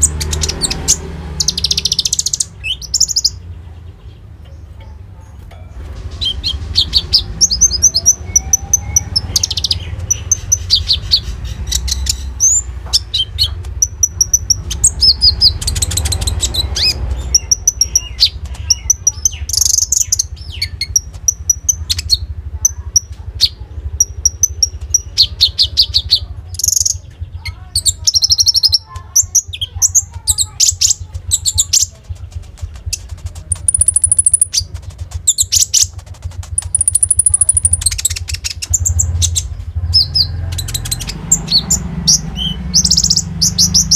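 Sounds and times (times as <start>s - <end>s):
bird singing high chirps and trills: 0.0s - 43.9s.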